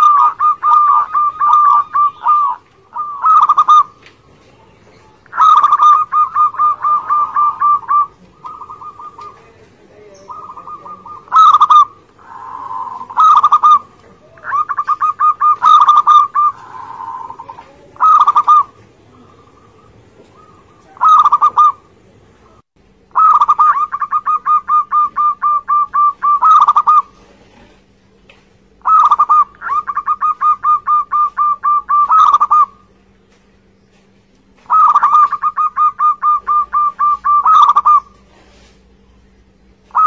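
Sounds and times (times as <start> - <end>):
dove cooing song: 0.0 - 28.0, 28.8 - 33.0, 33.6 - 40.0.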